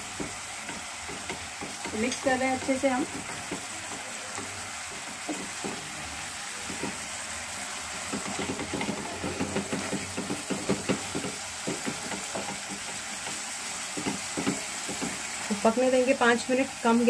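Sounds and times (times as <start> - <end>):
spatula scraping a pan: 0.0 - 15.6
chutney sizzling in a pan: 0.0 - 17.0.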